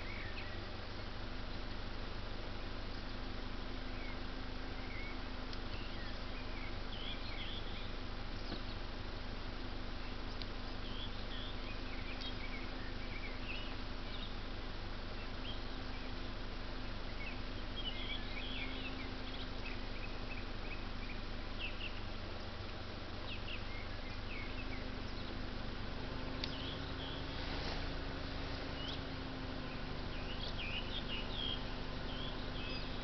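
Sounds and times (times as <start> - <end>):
low rumble and hum: 0.0 - 33.0
small birds chirping: 0.0 - 33.0.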